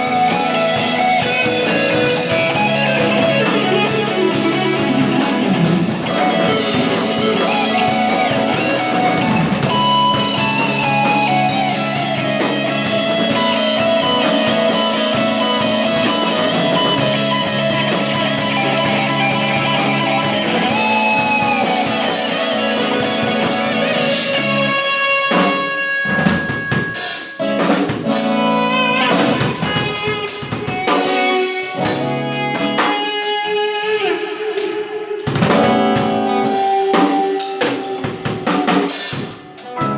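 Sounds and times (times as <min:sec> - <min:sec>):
drum beat: 0:00.0 - 0:24.8, 0:25.4 - 0:39.9
electric guitar lead lines: 0:00.0 - 0:39.9.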